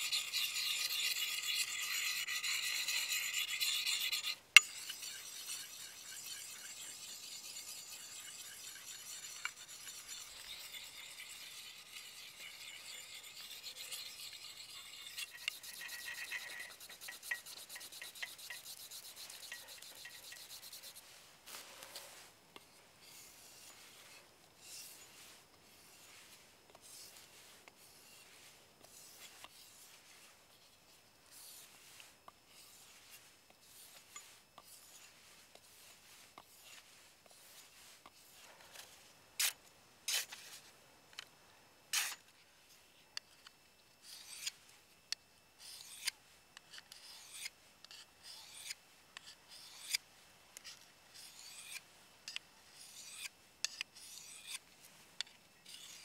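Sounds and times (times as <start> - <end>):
axe stroked on sharpening stone: 0.0 - 21.1, 23.0 - 30.7, 31.3 - 38.4, 41.9 - 42.2, 44.0 - 44.6, 45.6 - 50.0, 50.6 - 54.6, 55.2 - 56.0
knife drawn along diamond sharpener: 0.0 - 40.6, 41.9 - 42.3, 44.0 - 44.6, 45.6 - 50.0, 50.6 - 54.6, 55.2 - 56.0.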